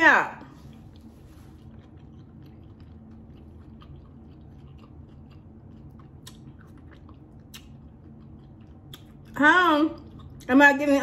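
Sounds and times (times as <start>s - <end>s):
person chewing food: 0.4s - 10.5s.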